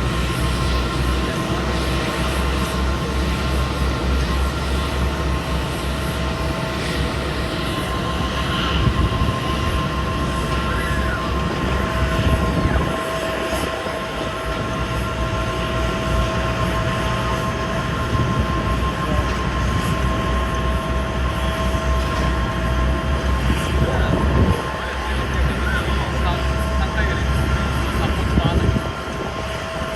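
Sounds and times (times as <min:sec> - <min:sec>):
jet engines whining: 0:00.0 - 0:29.9.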